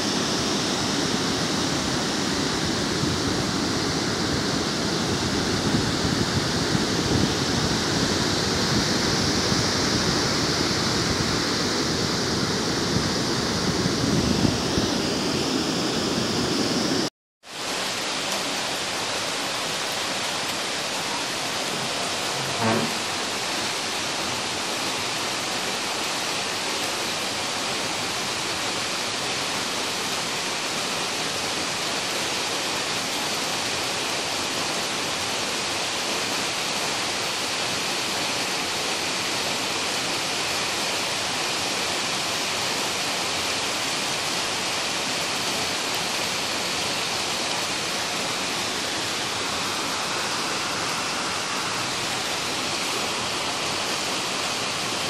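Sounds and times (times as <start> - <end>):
rain pouring down: 0.0 - 55.0.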